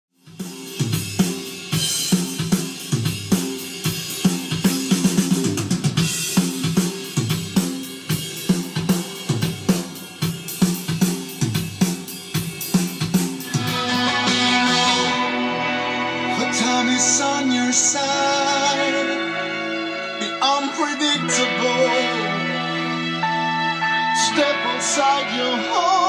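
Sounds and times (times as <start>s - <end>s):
rock drum kit playing: 0.2s - 26.0s.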